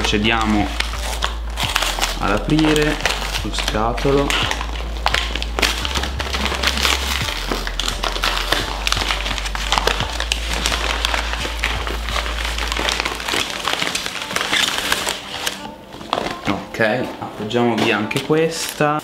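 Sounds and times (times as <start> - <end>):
paper tearing: 0.0 - 16.7
background music: 0.0 - 19.0
paper mailer crinkling: 0.0 - 19.0.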